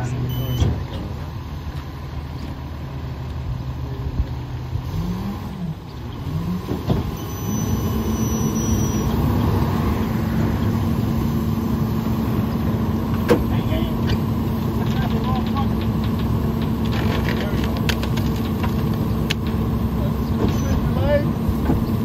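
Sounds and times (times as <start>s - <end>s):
garbage truck engine revving: 0.0s - 22.0s.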